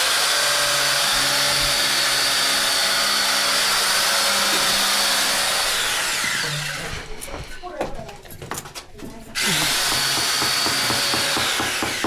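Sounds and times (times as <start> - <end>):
power tool motor whining: 0.0 - 7.3, 9.4 - 12.0.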